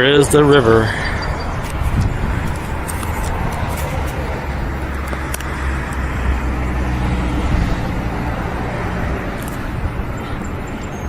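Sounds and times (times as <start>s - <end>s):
car engine drone: 0.0s - 11.0s
tyre and road noise: 0.0s - 11.0s.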